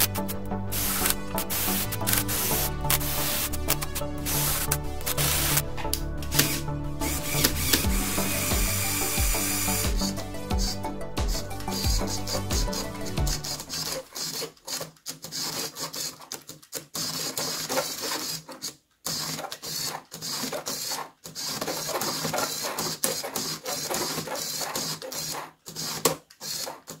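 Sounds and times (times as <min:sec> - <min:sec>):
small motor driving plastic gears: 0:00.0 - 0:05.6, 0:06.3 - 0:27.0.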